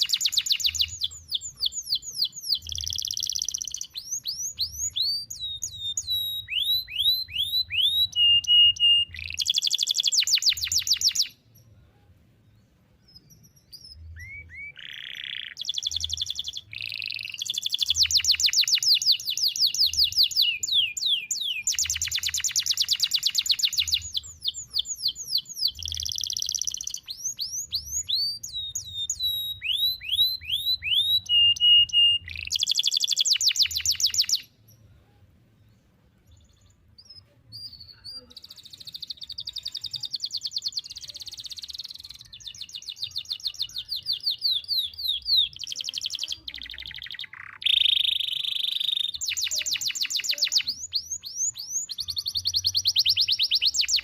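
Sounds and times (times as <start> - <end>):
canary singing: 0.0 - 11.8, 13.0 - 35.3, 36.2 - 54.0.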